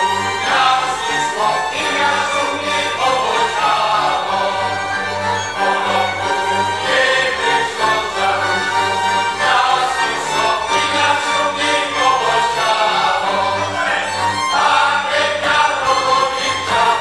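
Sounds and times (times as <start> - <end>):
folk string band: 0.0 - 17.0
men's choir singing: 0.0 - 17.0.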